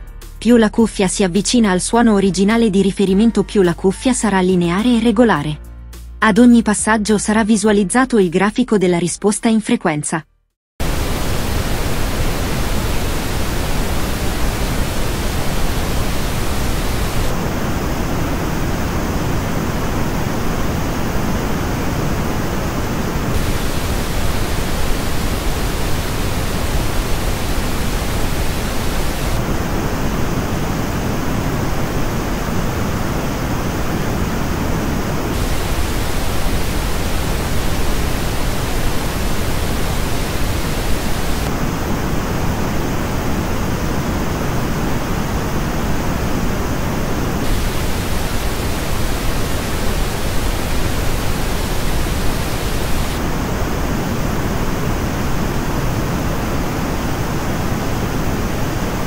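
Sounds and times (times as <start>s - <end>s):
pink noise: 10.8s - 59.0s.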